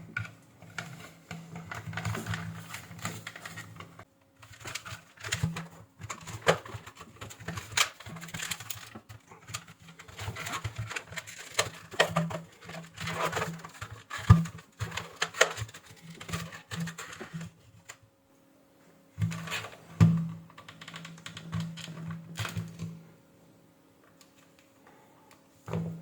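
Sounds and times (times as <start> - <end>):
plastic parts clicking and knocking: 0.1 - 18.0, 19.2 - 22.9.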